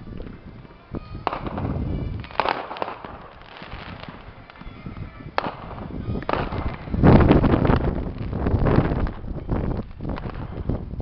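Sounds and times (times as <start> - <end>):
crackling pops: 0.0 - 11.0
fireworks bangs: 0.0 - 11.0.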